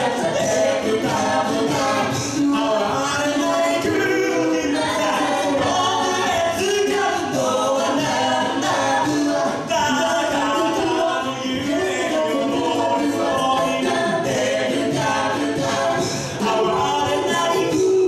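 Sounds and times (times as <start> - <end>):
a cappella group singing: 0.0 - 18.0.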